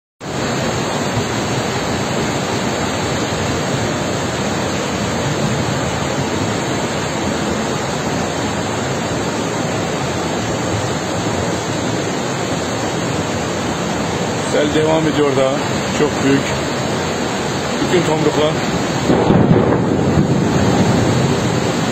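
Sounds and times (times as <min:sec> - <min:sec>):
river in flood rushing: 0:00.2 - 0:21.9.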